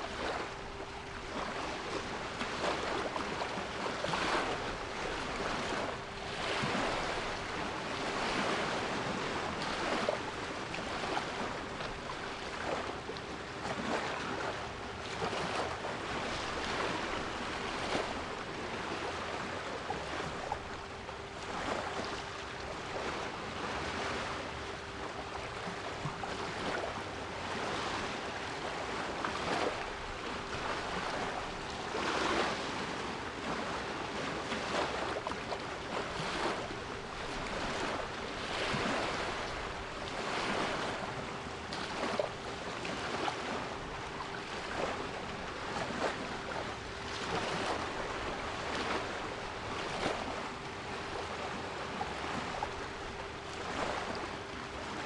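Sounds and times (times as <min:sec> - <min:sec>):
sea waves washing in: 0:00.0 - 0:55.0.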